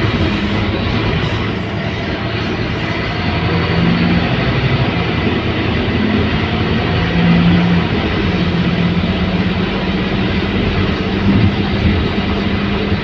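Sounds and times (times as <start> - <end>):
bus diesel engine drone: 0.0 - 13.0
road and cabin noise: 0.0 - 13.0.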